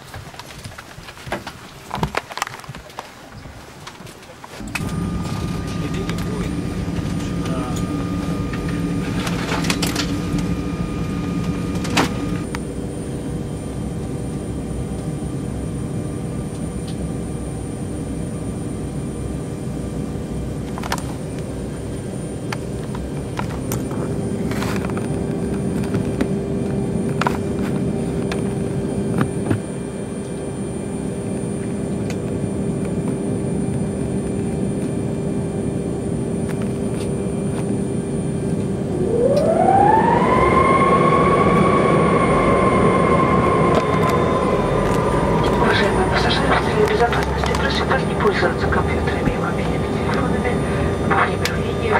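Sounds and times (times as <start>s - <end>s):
airliner cabin drone: 0.0s - 51.9s
engine whining tones: 4.6s - 51.9s.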